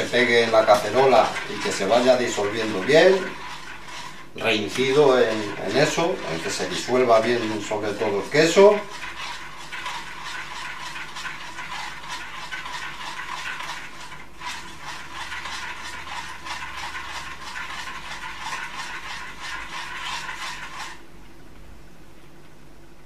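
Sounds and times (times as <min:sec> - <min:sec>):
spoon scraping a saucepan: 0:00.0 - 0:21.0.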